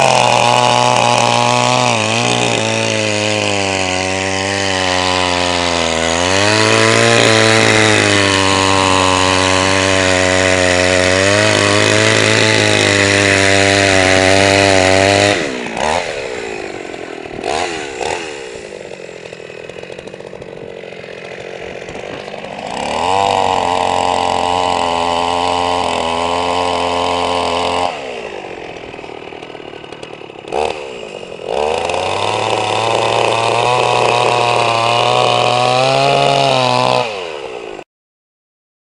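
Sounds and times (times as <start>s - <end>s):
chainsaw cutting through ice: 0.0s - 37.9s.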